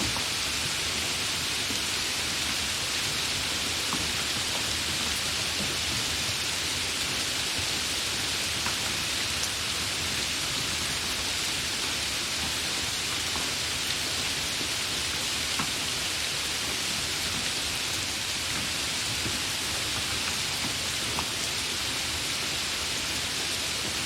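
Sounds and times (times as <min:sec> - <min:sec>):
rain falling steadily: 0:00.0 - 0:24.0.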